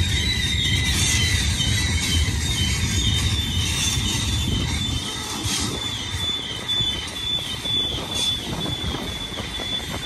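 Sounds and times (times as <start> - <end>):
train wheels rumbling on rail: 0.0 - 10.0
wheels squealing: 0.0 - 10.0.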